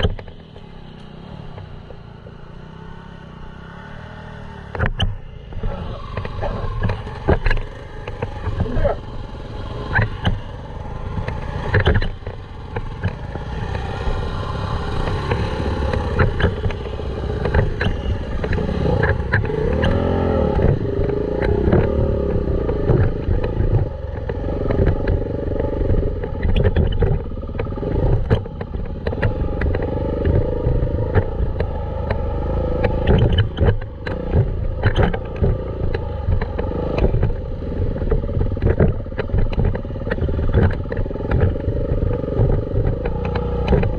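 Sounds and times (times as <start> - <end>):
sharp knocks and rattles: 0.0 - 2.5, 4.7 - 43.9
dirt bike engine revving: 0.0 - 43.9.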